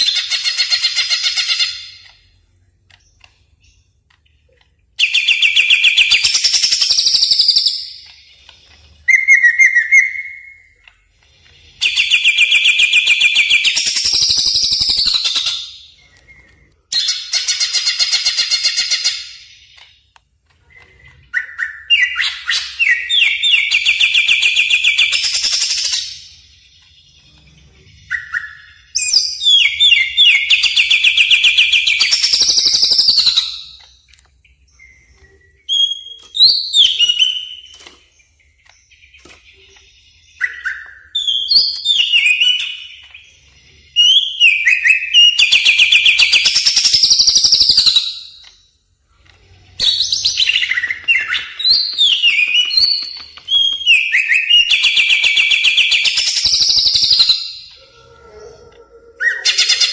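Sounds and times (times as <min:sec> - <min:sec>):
bird singing trills: 0:00.0 - 0:59.9.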